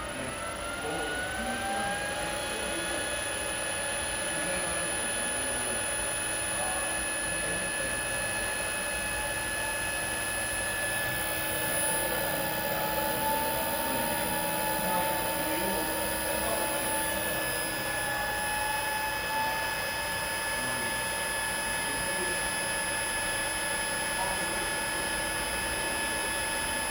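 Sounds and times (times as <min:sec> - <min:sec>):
electric motor whine: 0:00.0 - 0:26.9.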